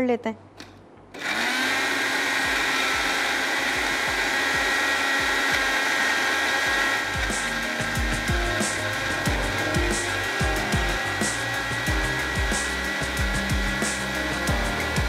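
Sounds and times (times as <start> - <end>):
electric blender motor whining: 1.1 - 15.0.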